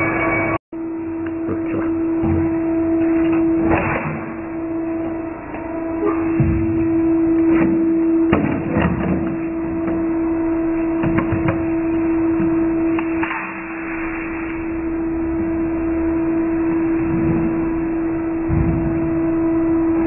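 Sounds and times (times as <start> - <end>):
sorting machine electric hum: 0.0 - 20.0.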